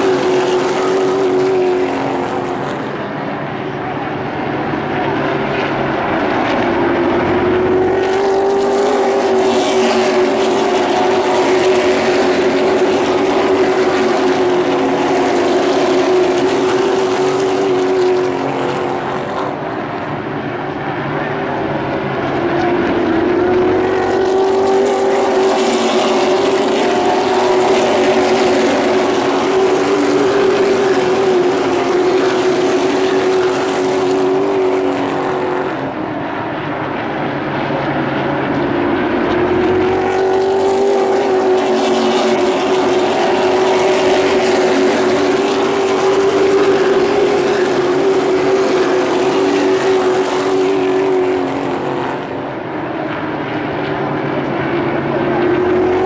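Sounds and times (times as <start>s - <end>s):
race car engines droning: 0.0s - 56.0s.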